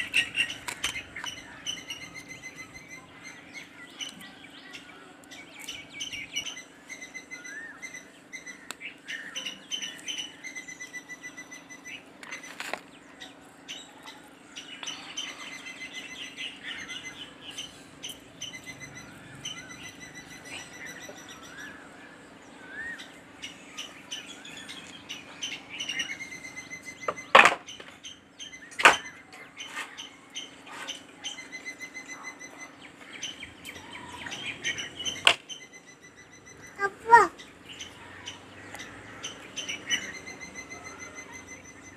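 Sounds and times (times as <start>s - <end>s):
birds chirping and trilling: 0.0s - 41.9s
steady low hum: 0.0s - 41.9s.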